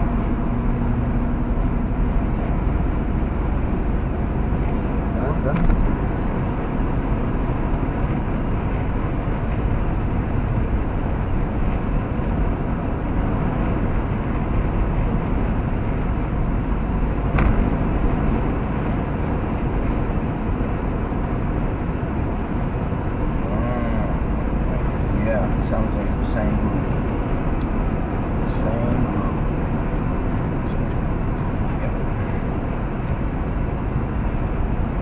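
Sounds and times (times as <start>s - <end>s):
road and engine noise in car: 0.0s - 35.0s.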